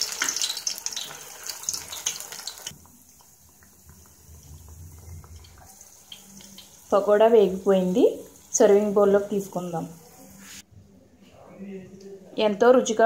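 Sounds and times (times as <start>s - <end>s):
batter sizzling in hot oil: 0.0s - 10.6s.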